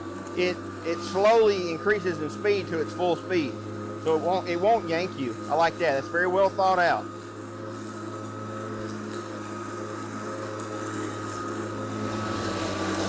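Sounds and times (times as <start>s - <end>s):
electric lawn mower running: 0.0s - 13.0s.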